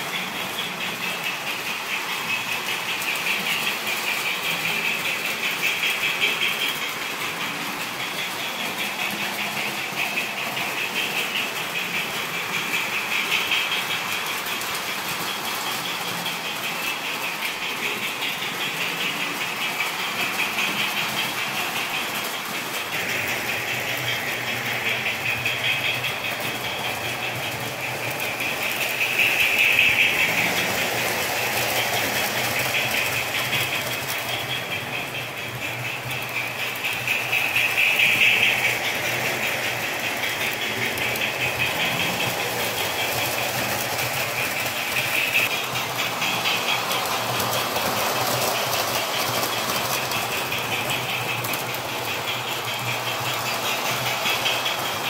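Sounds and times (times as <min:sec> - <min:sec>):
model trains whirring on track: 0:00.0 - 0:55.0.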